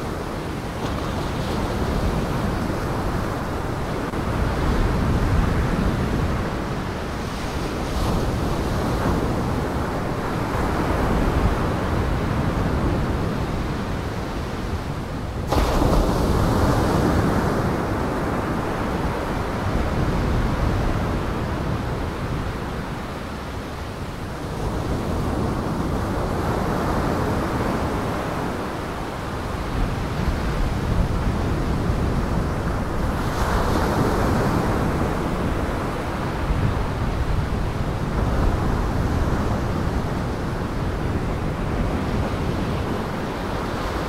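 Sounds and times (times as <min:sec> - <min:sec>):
gale wind: 0:00.0 - 0:44.0
storm waves breaking: 0:00.0 - 0:44.0.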